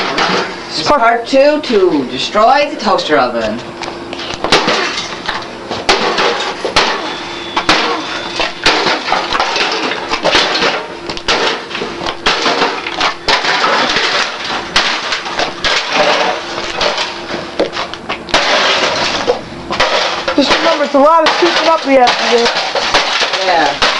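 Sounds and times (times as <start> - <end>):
debris crashing: 0.0 - 0.6, 4.5 - 23.9
blows smashing toaster oven: 4.4 - 23.9
glass breaking: 4.4 - 23.9.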